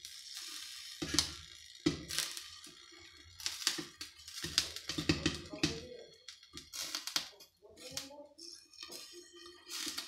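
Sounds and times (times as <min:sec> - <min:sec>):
popcorn popping in a pan: 0:00.0 - 0:10.0.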